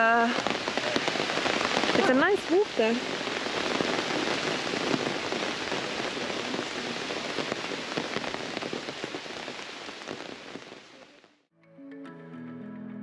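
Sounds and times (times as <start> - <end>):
steady rain falling: 0.0 - 11.5.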